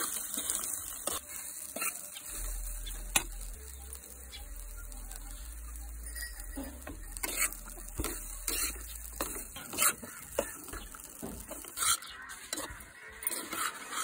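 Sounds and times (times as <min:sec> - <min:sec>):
metal spatula scraping a wok: 0:00.0 - 0:14.0.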